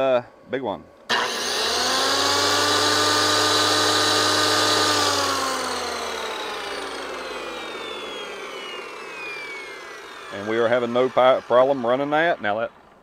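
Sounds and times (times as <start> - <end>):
circular saw motor whine: 1.1 - 13.0.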